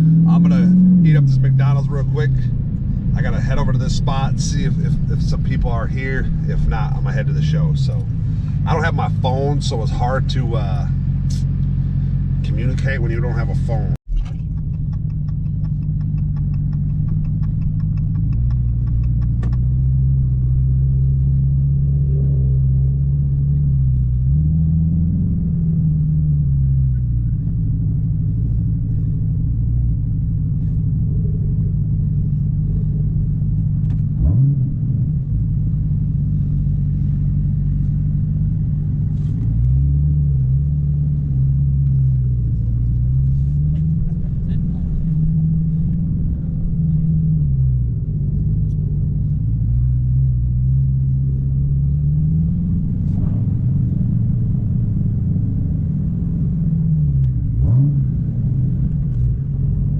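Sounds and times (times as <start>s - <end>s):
car engine running at low revs: 0.0s - 59.9s.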